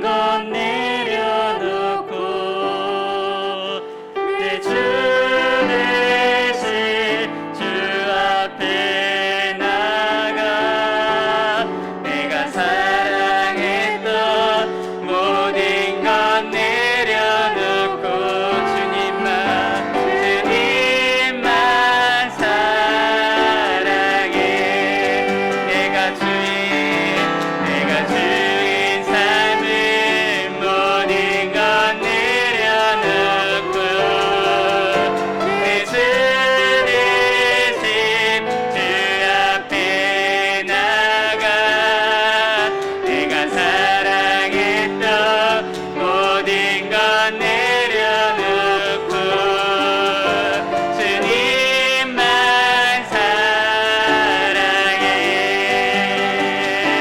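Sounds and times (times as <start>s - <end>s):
piano accompaniment: 0.0s - 57.0s
vocalists singing: 0.0s - 57.0s.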